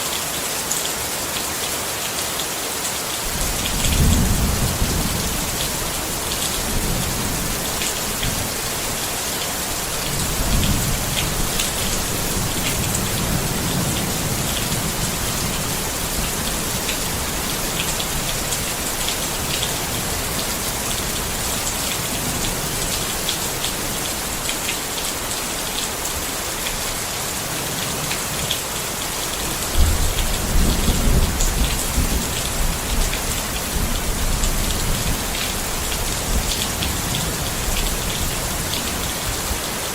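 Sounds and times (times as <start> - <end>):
rain pattering on a tent: 0.0 - 39.9.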